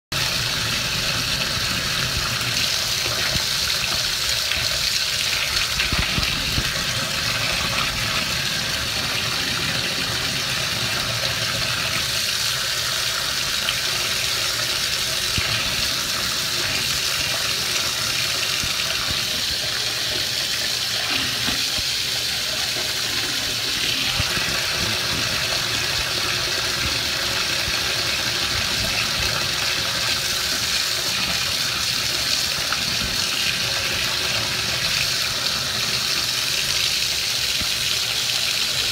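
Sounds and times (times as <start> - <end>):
water pouring into bathtub: 0.2 - 38.9.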